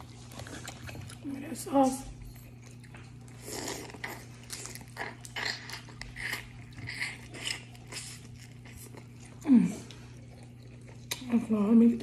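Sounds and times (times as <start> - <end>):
close biting and chewing: 0.0 - 1.2, 2.5 - 11.4
steady low hum: 0.0 - 12.0.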